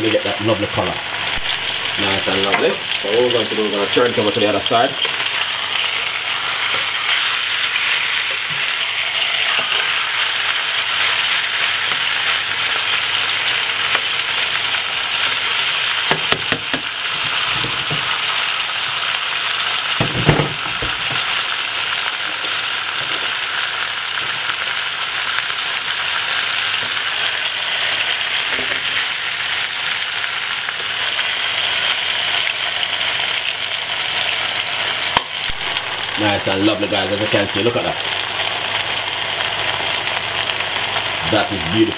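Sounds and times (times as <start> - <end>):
steaks sizzling in oil: 0.0 - 41.9.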